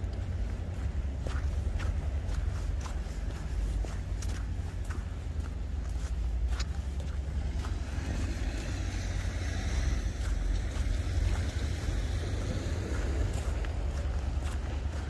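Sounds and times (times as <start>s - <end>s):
boat engine rumbling: 0.0s - 15.0s
faint footsteps: 0.0s - 15.0s.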